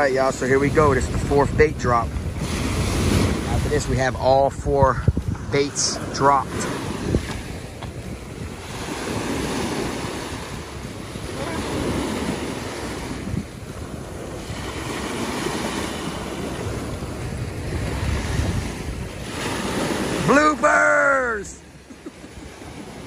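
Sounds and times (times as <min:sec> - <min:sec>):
wind buffeting the microphone: 0:00.0 - 0:20.6, 0:21.5 - 0:23.0
ocean surf breaking: 0:00.0 - 0:23.0.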